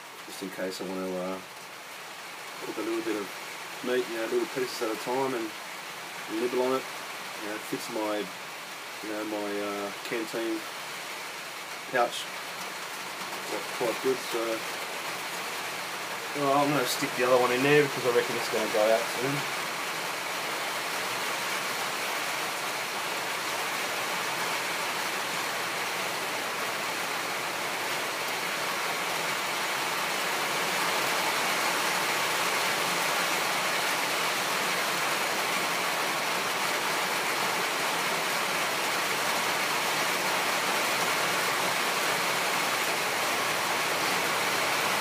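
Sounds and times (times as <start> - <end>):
rain on a tin roof: 0.0 - 45.0.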